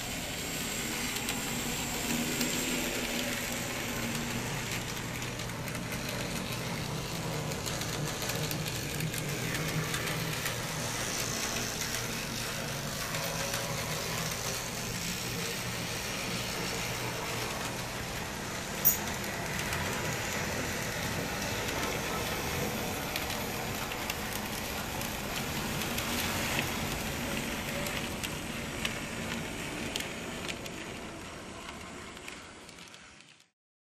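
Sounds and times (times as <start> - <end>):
model tram motors and wheels: 0.0 - 33.5.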